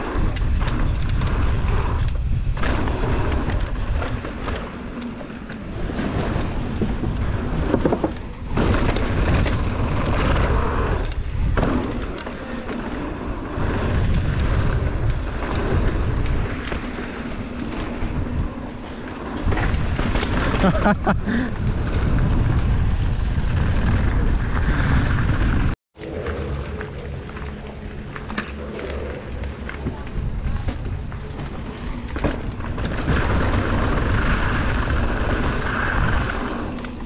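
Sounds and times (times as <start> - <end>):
bike rattling: 0.0 - 37.0
bike tyres rolling over dirt: 0.0 - 37.0
wind rumble on microphone: 0.0 - 37.0.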